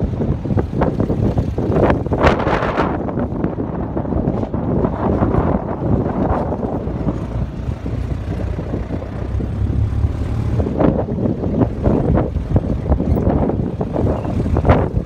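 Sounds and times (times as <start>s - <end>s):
off-road vehicle engine: 0.0s - 15.0s
wind buffeting microphone: 0.0s - 15.0s.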